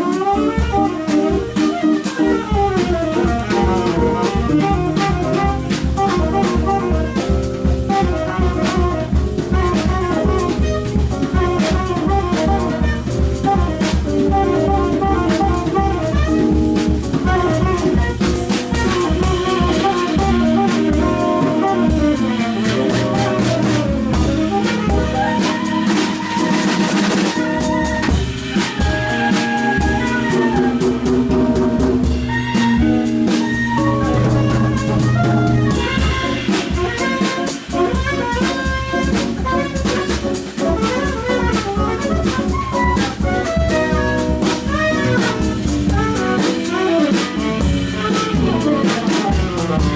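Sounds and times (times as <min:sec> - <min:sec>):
busy drumming: 0:00.0 - 0:49.9
guitar: 0:00.0 - 0:49.9
tenor saxophone: 0:00.0 - 0:49.9.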